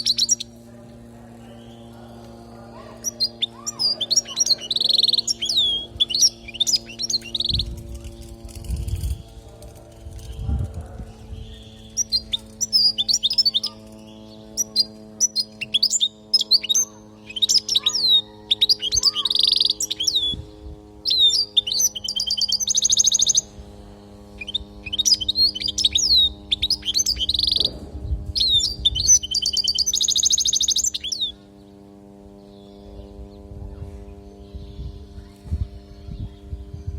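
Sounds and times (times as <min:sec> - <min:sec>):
finch singing twittering chirps: 0:00.0 - 0:00.6, 0:01.3 - 0:09.4, 0:10.1 - 0:31.8
steady low hum: 0:00.0 - 0:36.9.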